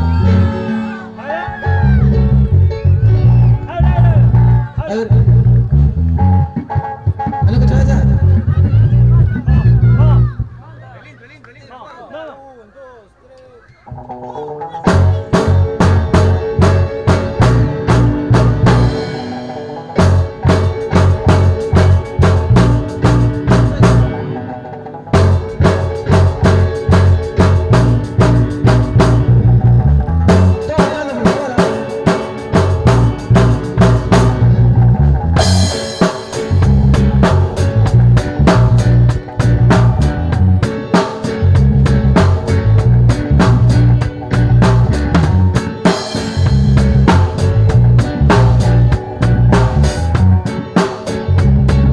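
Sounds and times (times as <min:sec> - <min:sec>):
music with drums and bass: 0:00.0 - 0:00.7, 0:01.3 - 0:10.6, 0:13.9 - 0:51.9.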